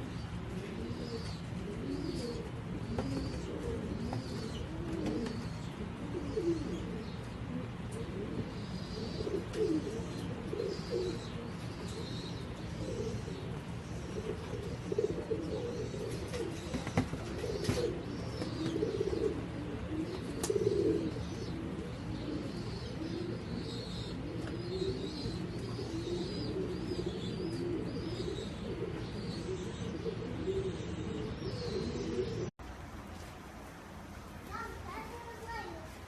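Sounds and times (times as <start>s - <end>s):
doves cooing: 0.0s - 32.5s
small birds chirping: 0.0s - 32.5s, 34.1s - 36.0s.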